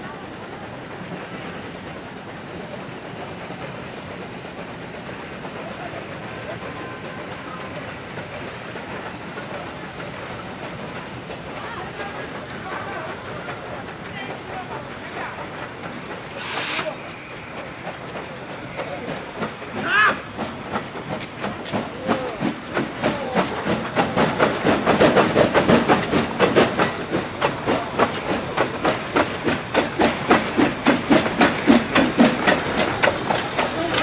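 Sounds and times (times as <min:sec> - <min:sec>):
steam locomotive hissing: 0:00.0 - 0:34.0
locomotive rhythmic chuffing beat: 0:00.1 - 0:34.0.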